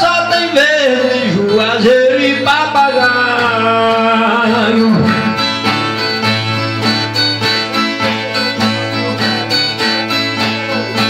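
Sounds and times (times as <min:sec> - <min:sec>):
plucked guitar strumming: 0:00.0 - 0:11.0.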